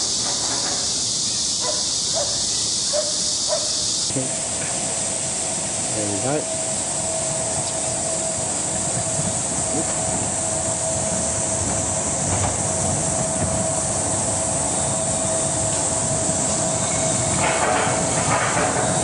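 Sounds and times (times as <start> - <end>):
constant whine: 0.0 - 19.0
roller coaster rumbling on track: 0.0 - 19.0.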